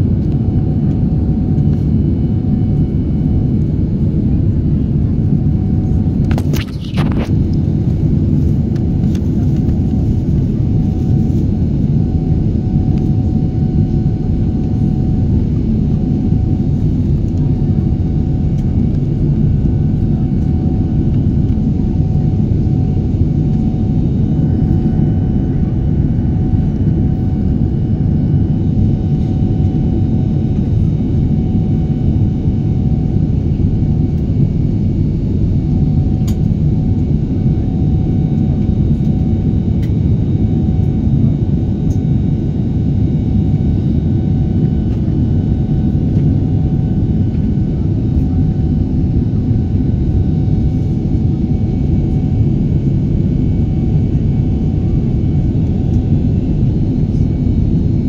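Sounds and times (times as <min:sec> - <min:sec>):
jet engines rumbling in cabin: 0:00.0 - 0:58.0.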